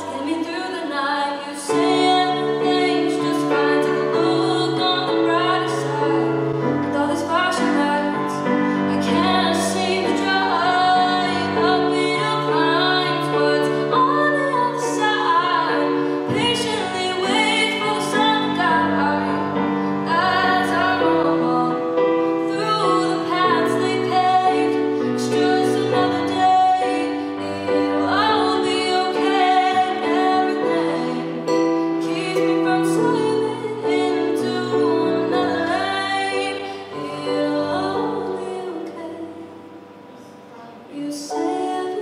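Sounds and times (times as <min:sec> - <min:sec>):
woman singing slow song: 0:00.0 - 0:39.8, 0:40.5 - 0:42.0
keyboard piano: 0:00.0 - 0:42.0.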